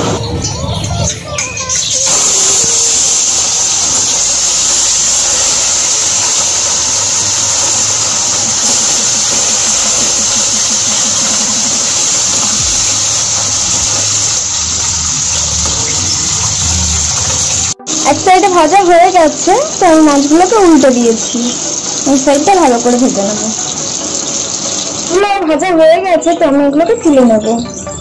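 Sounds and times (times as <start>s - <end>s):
fish sizzling in hot oil: 1.6s - 27.9s.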